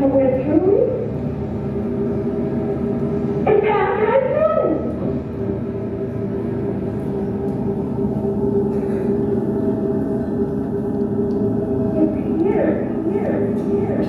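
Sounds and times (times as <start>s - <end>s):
low grainy drone: 0.0s - 14.0s.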